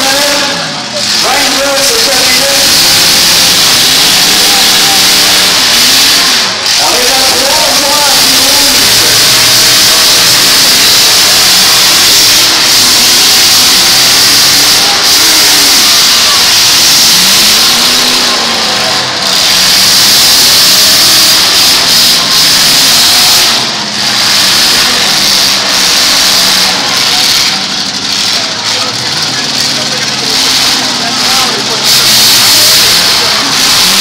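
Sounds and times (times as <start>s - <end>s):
truck engines revving: 0.0s - 34.0s.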